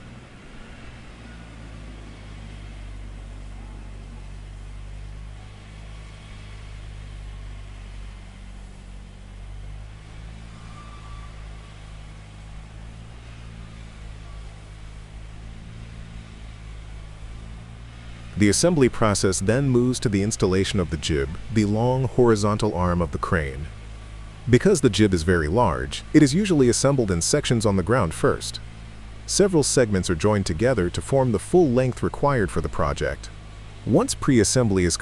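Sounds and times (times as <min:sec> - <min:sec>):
heavy engine humming: 0:00.0 - 0:35.0.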